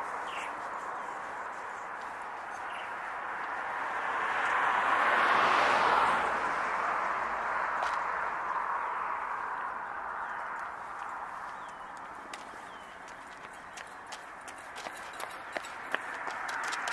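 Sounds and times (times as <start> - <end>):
outdoor traffic noise: 0.0 - 16.9
vehicle passing: 0.0 - 16.9.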